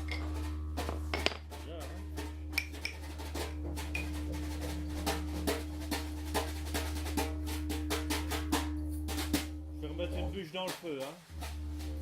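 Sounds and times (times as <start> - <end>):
didgeridoo drone: 0.0 - 10.6, 11.3 - 12.0
hand percussion beat: 0.0 - 12.0.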